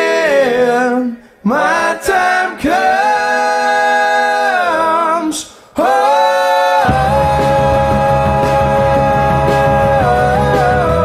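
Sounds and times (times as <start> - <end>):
a cappella harmony singing: 0.0 - 11.0.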